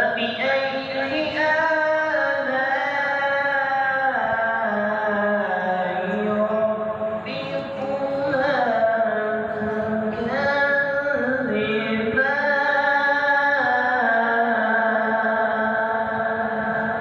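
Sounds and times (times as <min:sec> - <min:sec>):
man reciting in melodic chant: 0:00.0 - 0:17.0.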